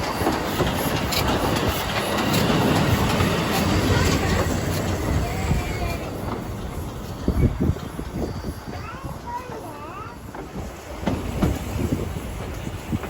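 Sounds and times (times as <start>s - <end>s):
train running on rails: 0.0s - 13.0s.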